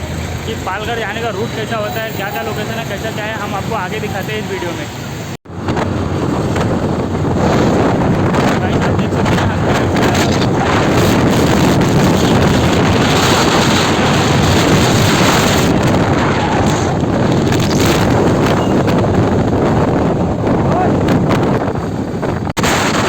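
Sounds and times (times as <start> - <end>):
wind buffeting microphone: 3.0 - 23.0.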